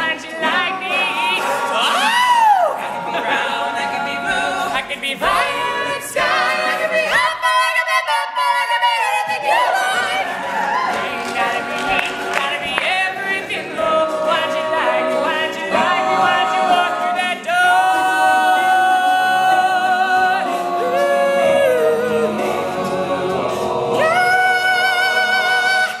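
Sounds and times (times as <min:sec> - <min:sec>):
male group singing harmony: 0:00.0 - 0:26.0.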